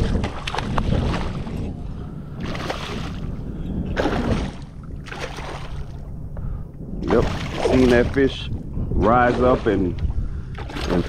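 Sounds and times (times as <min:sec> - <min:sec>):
water sloshing around a kayak: 0:00.0 - 0:11.0
wind rumbling on the microphone: 0:00.0 - 0:11.0.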